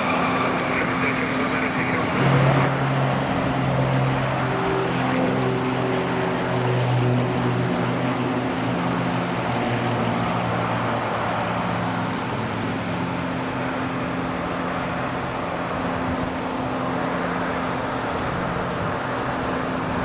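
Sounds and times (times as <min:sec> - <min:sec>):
airplane engines passing: 0:00.0 - 0:20.0.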